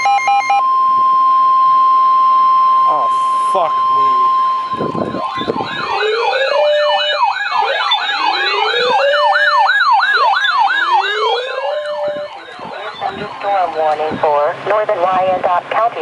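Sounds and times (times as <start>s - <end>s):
siren wail: 0.0s - 15.1s
siren yelp: 0.0s - 15.2s.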